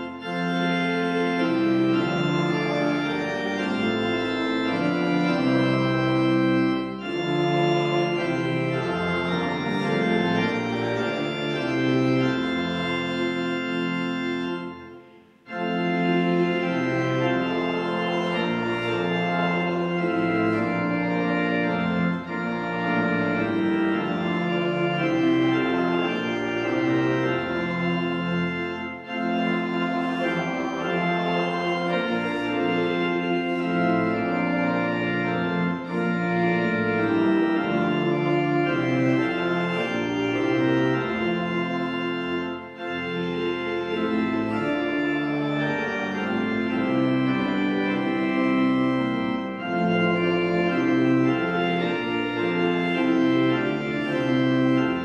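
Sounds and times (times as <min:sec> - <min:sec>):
pipe organ playing a hymn: 0:00.0 - 0:55.0.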